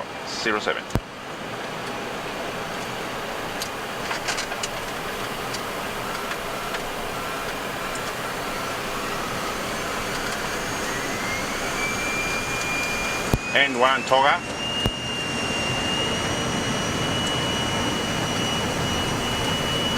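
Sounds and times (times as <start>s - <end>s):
jet engines spooling up: 1.6s - 19.9s.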